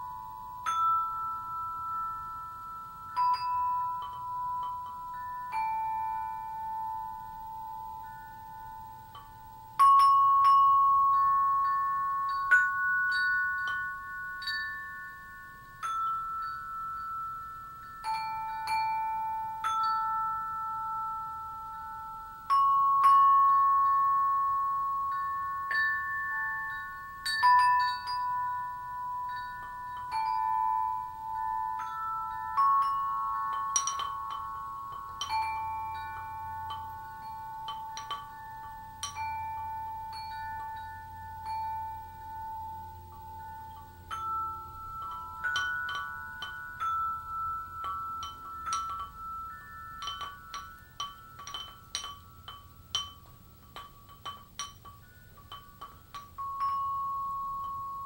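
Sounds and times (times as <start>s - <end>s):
slow chime-like music: 0.0s - 58.0s.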